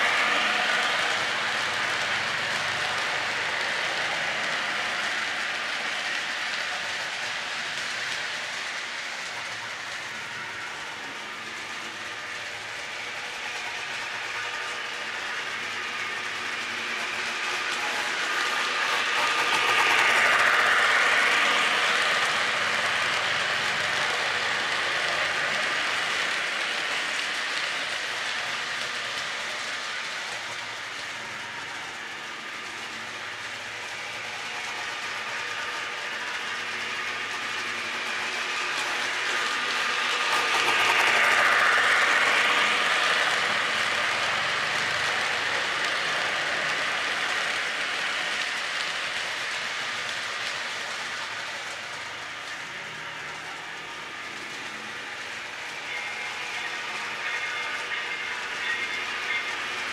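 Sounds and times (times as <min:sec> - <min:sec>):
model train whirring and clattering: 0:00.0 - 0:59.9.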